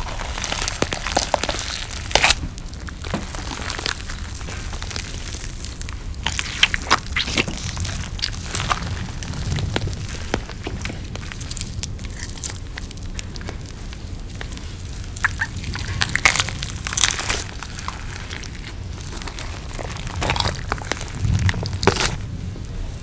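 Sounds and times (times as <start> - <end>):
chewing and crunching: 0.0 - 23.0.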